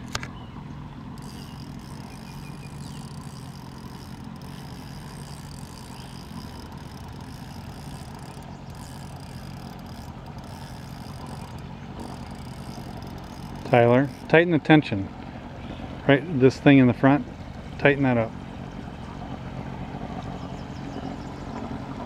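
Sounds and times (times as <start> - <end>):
low motor hum: 0.0 - 22.0
outdoor background noise: 0.0 - 22.0.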